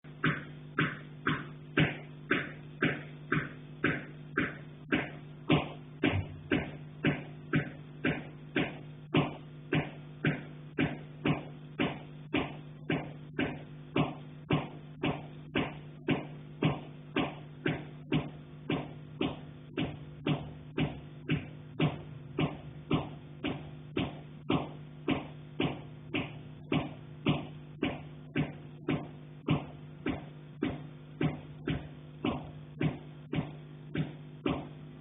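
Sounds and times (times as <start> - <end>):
steady low hum: 0.0 - 35.0
knocking on a pipe: 0.2 - 34.8.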